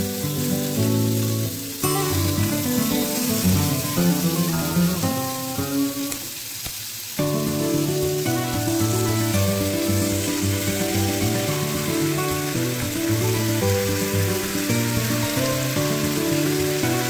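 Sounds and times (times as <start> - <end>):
food sizzling on a griddle: 0.0 - 17.0
background music: 0.1 - 6.2, 7.2 - 17.0.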